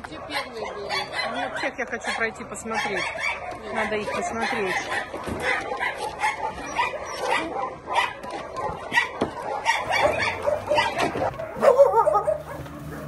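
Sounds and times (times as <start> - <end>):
puppies barking and yipping: 0.0 - 13.0
dogs whining: 0.2 - 13.0.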